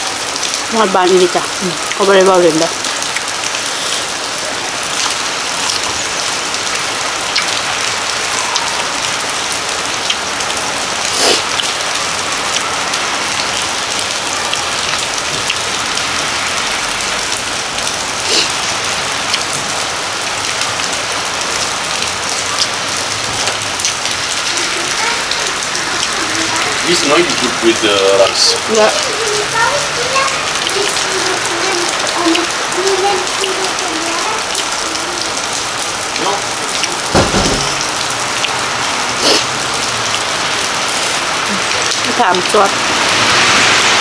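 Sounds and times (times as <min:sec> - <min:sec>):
steady rain hiss: 0:00.0 - 0:44.0
raindrop taps: 0:04.8 - 0:42.8.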